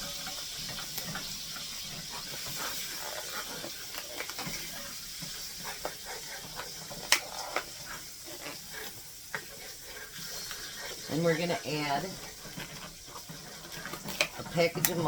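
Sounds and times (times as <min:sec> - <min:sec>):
butter sizzling in a skillet: 0:00.0 - 0:15.0.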